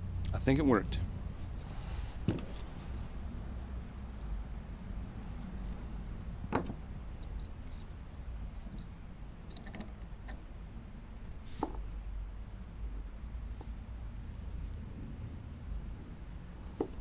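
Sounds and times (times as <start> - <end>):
steady low rumble: 0.0 - 16.4.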